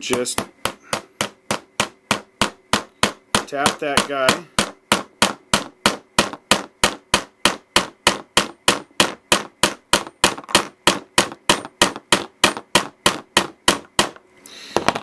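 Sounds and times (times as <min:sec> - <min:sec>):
small hammer tapping metal: 0:00.0 - 0:14.2.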